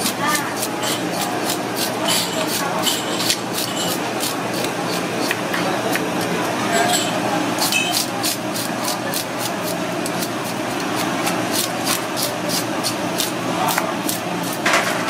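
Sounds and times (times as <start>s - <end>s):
fish scaler scraping scales: 0.0s - 14.6s
steady background noise: 0.0s - 15.0s.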